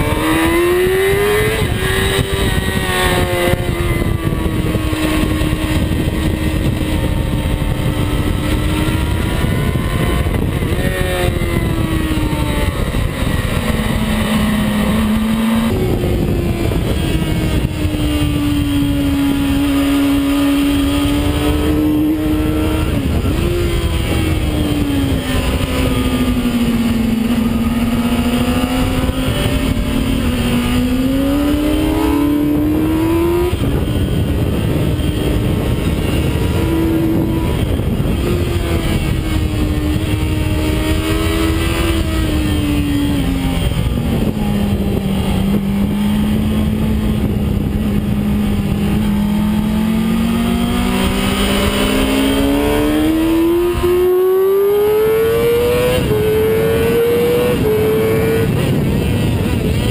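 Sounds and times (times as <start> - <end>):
heavy wind rush: 0.0 - 59.9
motorcycle engine at high revs: 0.0 - 59.9.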